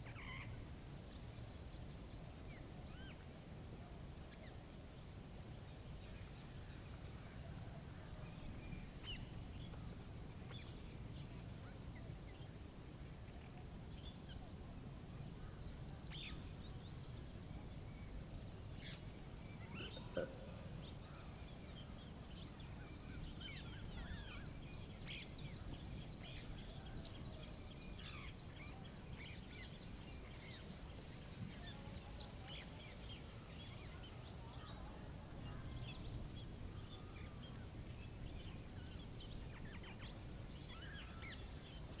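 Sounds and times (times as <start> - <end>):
small birds chirping and trilling: 0.0 - 42.0.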